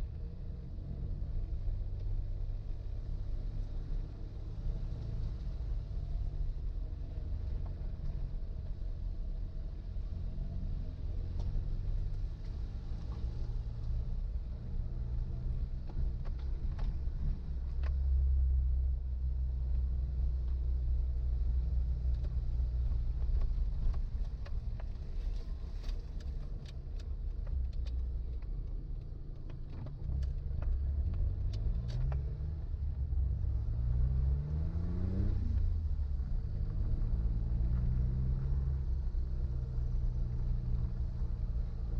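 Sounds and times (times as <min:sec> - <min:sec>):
car engine under load: 0:04.6 - 0:41.9.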